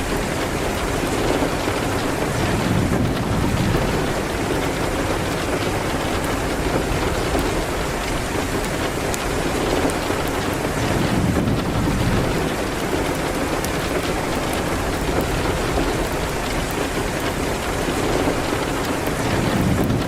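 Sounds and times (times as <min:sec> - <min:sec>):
rain hitting a window: 0:00.0 - 0:20.0
wood fire crackling: 0:00.0 - 0:20.0.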